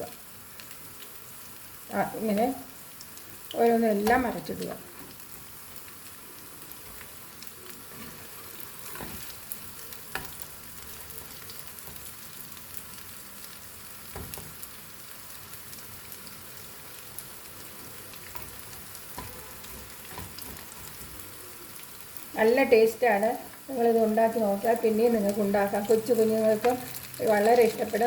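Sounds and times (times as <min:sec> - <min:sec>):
slices sizzling in a frying pan: 0:00.0 - 0:28.0.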